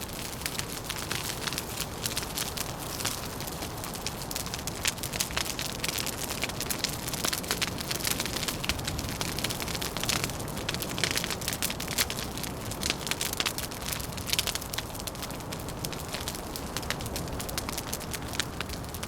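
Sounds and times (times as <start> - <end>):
low rumble of wind: 0.0 - 19.0
wood fire crackling: 0.0 - 19.0.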